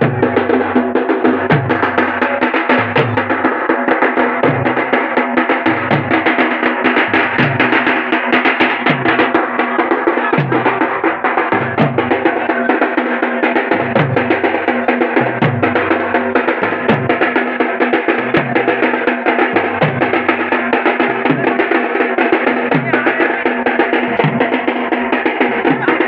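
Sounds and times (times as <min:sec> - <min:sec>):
barrel drums played fast: 0:00.0 - 0:26.0.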